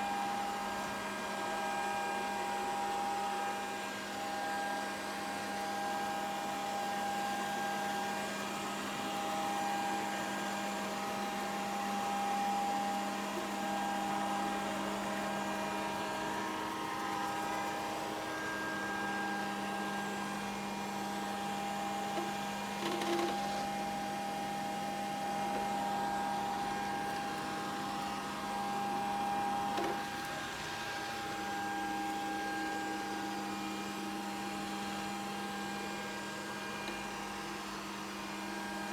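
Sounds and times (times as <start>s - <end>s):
robot vacuum cleaner running: 0.0s - 38.9s.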